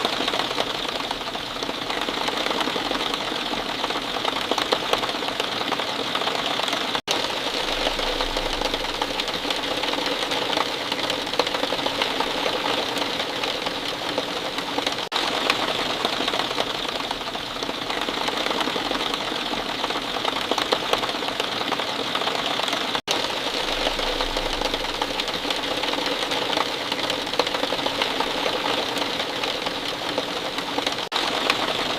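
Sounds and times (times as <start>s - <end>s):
rain falling steadily: 0.0s - 31.9s.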